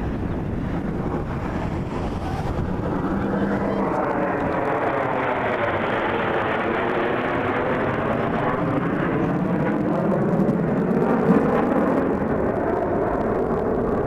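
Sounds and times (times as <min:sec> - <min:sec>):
aircraft engine rush: 0:00.0 - 0:14.0.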